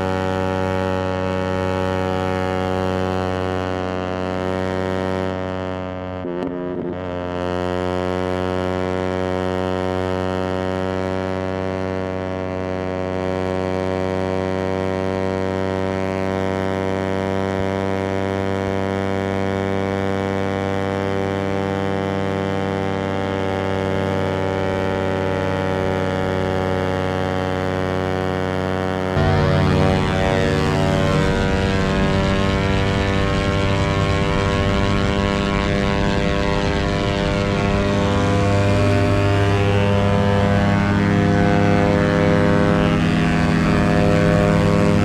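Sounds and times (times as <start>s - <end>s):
motorcycle engine at high revs: 0.0s - 45.0s.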